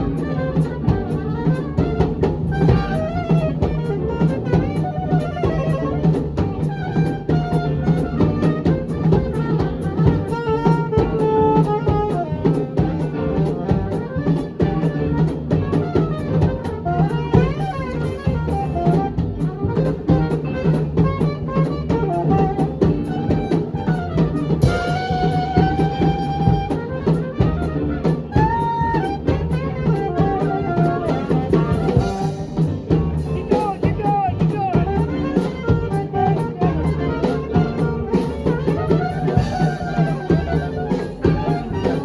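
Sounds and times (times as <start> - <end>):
drum kit beat: 0.0 - 42.0
saxophone and brass lines: 0.0 - 42.0
swing band playing: 0.0 - 42.0.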